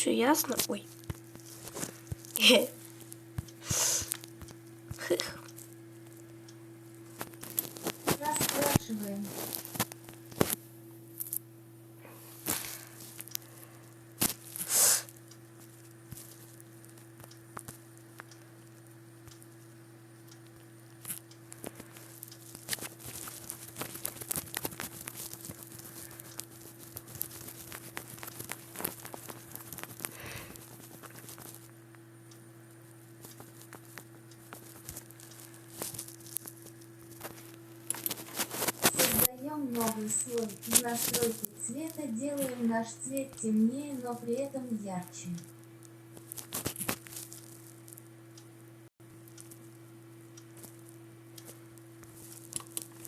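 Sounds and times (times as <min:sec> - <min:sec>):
electrical hum: 0:00.0 - 0:53.0.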